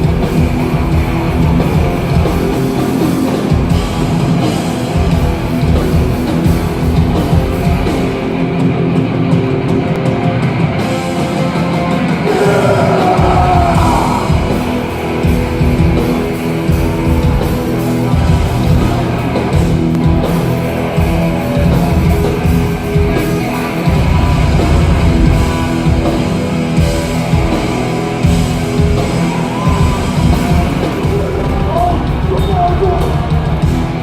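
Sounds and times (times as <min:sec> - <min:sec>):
heavy band with distorted guitars: 0:00.0 - 0:34.0.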